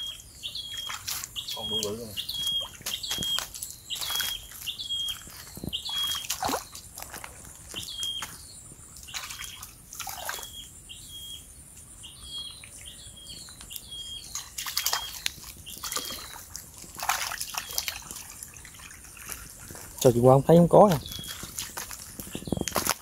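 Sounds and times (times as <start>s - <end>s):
water sloshing and splashing: 0.0s - 10.6s, 13.6s - 23.0s
bird chirping: 0.0s - 23.0s.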